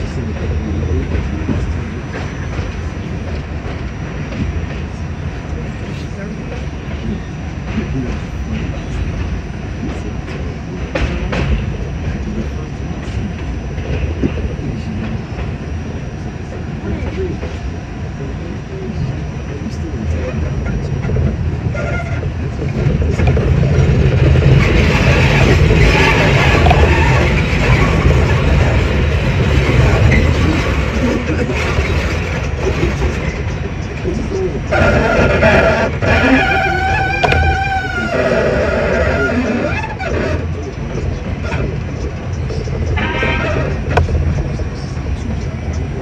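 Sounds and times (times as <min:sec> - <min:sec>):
subway wheels rumbling: 0:00.0 - 0:46.0.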